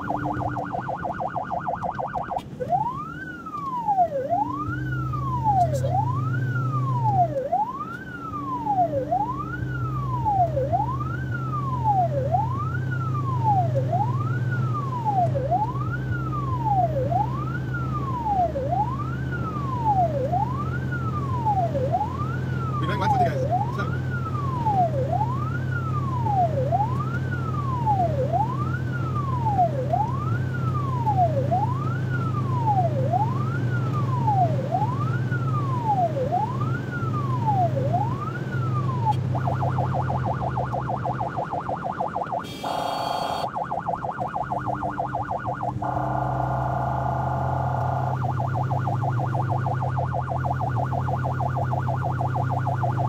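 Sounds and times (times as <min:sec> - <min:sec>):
electronic siren wailing: 0:00.0 - 0:53.0
harsh high siren tone: 0:00.0 - 0:53.0
rapid pulsing siren tone: 0:00.0 - 0:53.0
vehicle engine and tyres droning: 0:00.0 - 0:53.0.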